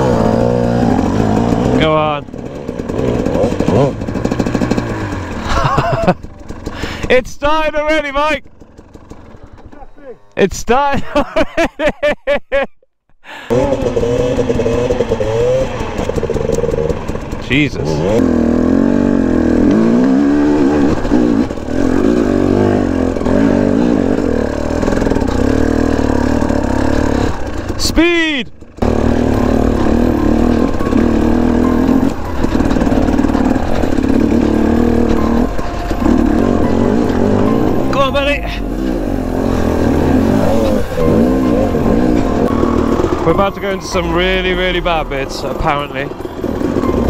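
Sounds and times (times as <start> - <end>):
dirt bike engine running: 0.0 - 11.5, 13.4 - 47.0.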